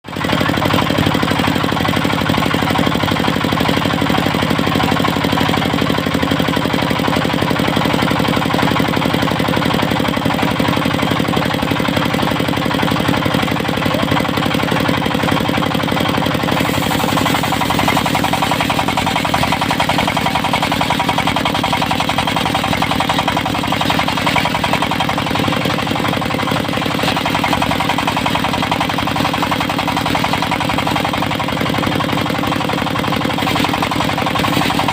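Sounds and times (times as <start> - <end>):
diesel engine knocking: 0.0 - 34.9.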